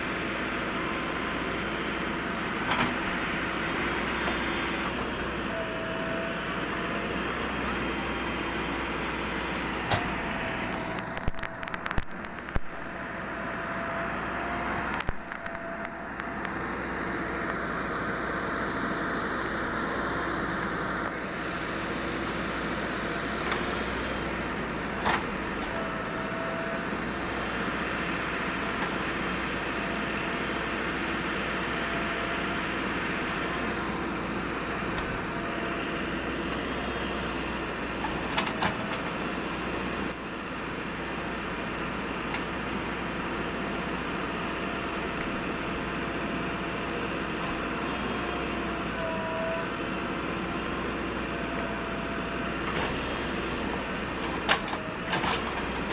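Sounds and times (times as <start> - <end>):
backhoe engine running: 0.0 - 55.9.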